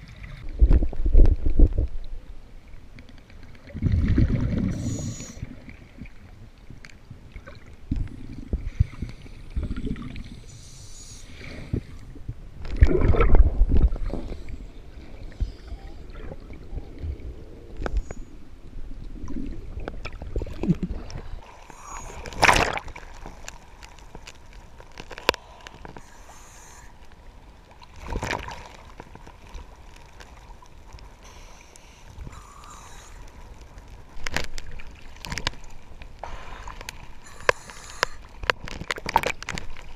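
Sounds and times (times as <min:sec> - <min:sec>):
sea water sloshing and splashing: 0:02.8 - 0:39.9.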